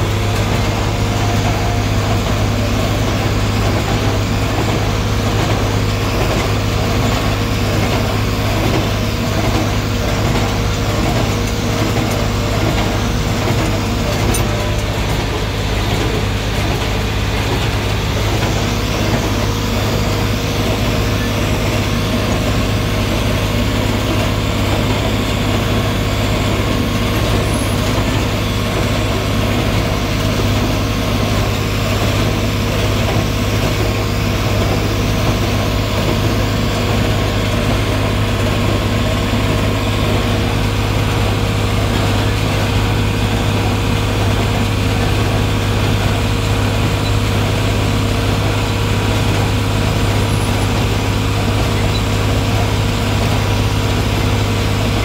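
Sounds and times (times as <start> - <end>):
baler machinery humming: 0.0 - 55.0
tractor engine running: 0.0 - 55.0.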